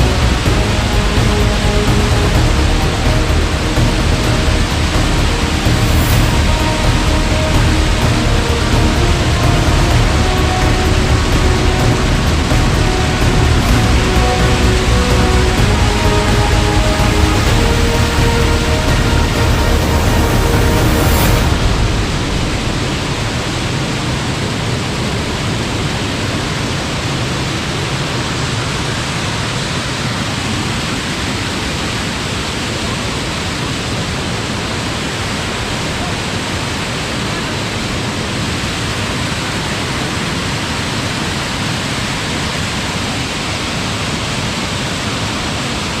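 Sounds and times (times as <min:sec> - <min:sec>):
heavy waterfall rushing: 0:00.0 - 0:46.0.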